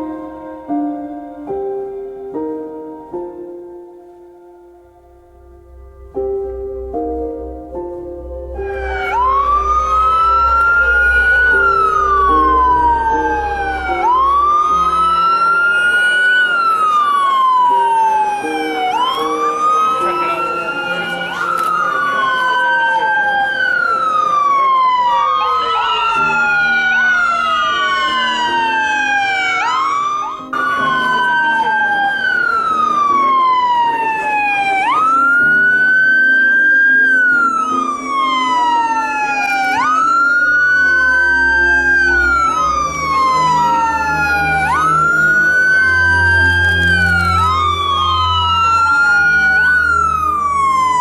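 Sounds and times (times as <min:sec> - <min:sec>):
emergency sirens wailing: 0:00.0 - 0:00.7, 0:05.2 - 0:51.0.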